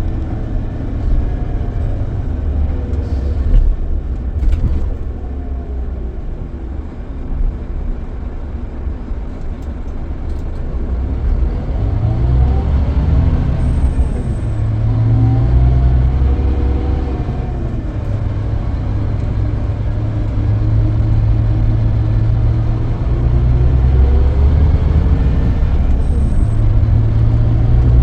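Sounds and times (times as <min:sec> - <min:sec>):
coach engine and road rumble: 0:00.0 - 0:28.0.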